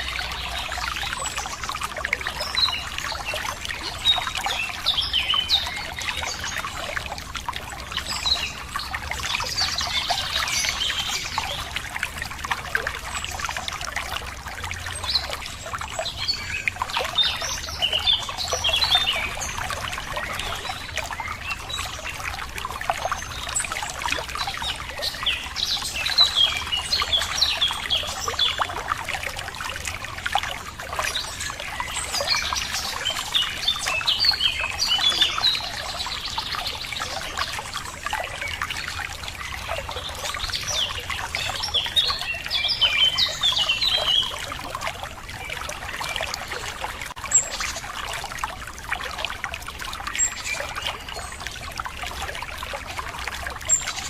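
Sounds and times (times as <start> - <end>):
songbirds chirping: 0.0 - 54.0
water trickling: 0.0 - 54.0.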